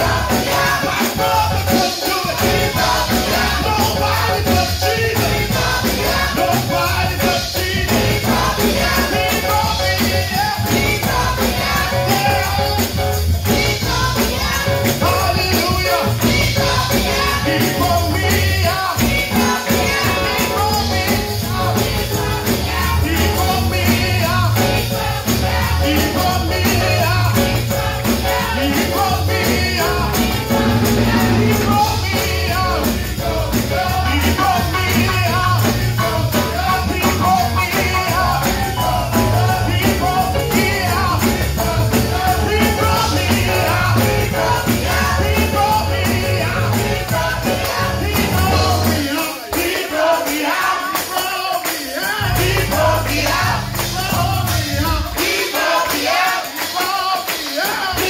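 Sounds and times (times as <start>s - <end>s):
gospel choir singing: 0.0s - 58.0s
live band beat and bass: 0.0s - 58.0s.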